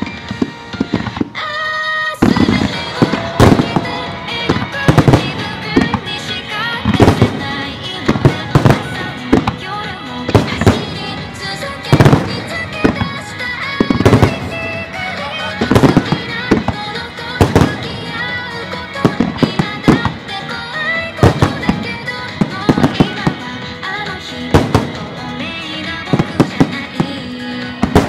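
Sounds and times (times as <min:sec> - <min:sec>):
fireworks bursting: 0:00.0 - 0:28.0
loud recorded music: 0:00.0 - 0:28.0.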